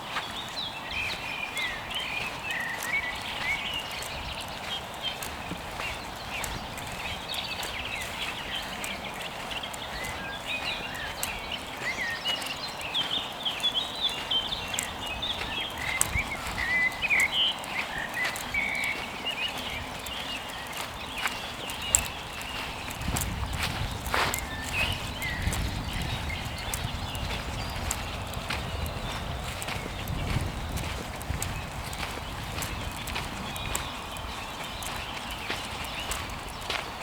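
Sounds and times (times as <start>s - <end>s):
birds chirping: 0.0s - 37.0s
footsteps on dry leaves: 0.0s - 37.0s.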